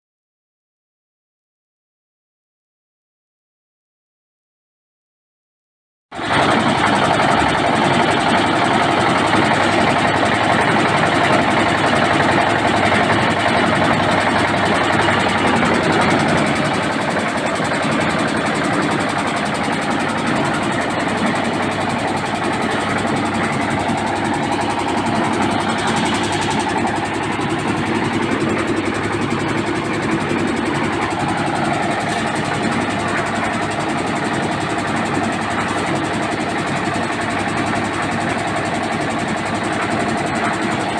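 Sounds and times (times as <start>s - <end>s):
concrete mixer diesel engine running: 6.2s - 40.9s.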